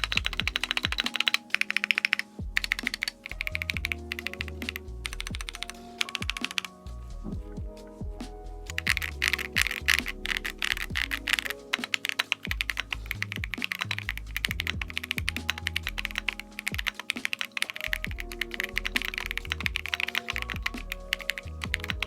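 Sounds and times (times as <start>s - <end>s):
mechanical keyboard typing: 0.0s - 6.8s, 8.7s - 22.0s.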